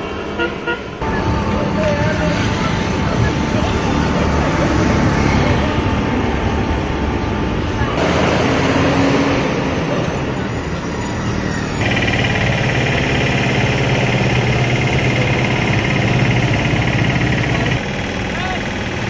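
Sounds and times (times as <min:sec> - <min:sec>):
road traffic: 0:00.0 - 0:19.0
truck engine running: 0:00.0 - 0:19.0.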